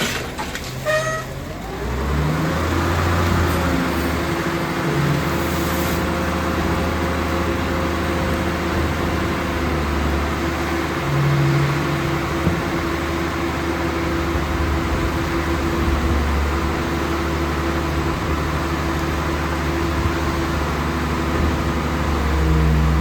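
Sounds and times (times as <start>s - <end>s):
garbage truck engine running: 0.0s - 23.0s.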